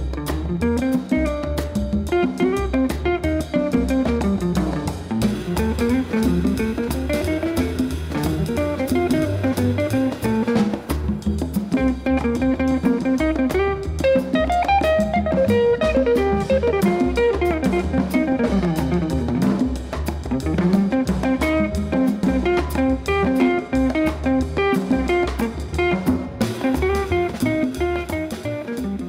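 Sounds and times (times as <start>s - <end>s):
drum-kit beat: 0.0s - 29.0s
guitar: 0.0s - 29.0s.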